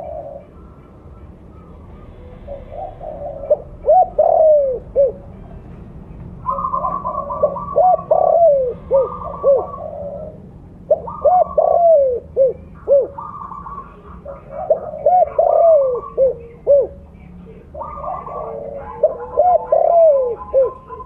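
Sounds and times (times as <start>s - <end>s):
dove cooing: 0.0s - 5.3s, 6.4s - 21.0s.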